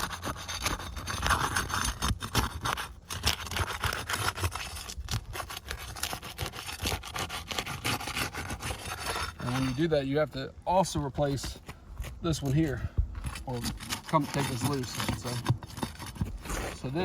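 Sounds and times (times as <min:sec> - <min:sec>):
scraping under roof shingles: 0:00.0 - 0:17.0.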